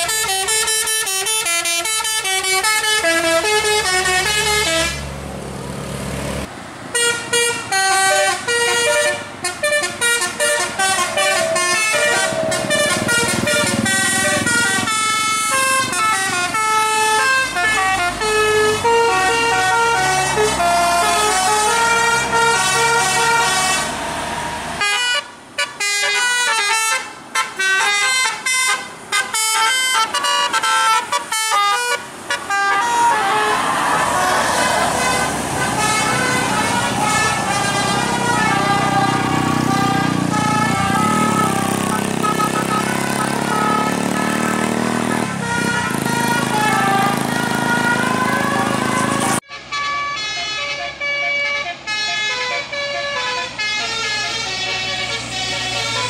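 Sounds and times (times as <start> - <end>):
bus horns playing melodic runs: 0.0 - 5.2, 6.4 - 56.0.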